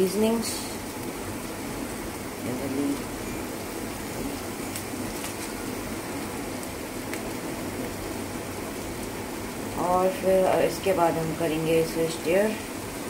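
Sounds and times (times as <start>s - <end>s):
faint crackles: 0.0s - 13.0s
vegetables sizzling in oil: 0.0s - 13.0s.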